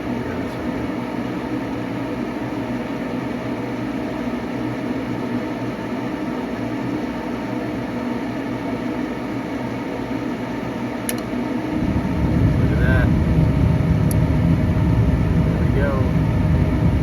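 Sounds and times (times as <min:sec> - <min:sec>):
gas furnace hum and rush: 0:00.0 - 0:17.0.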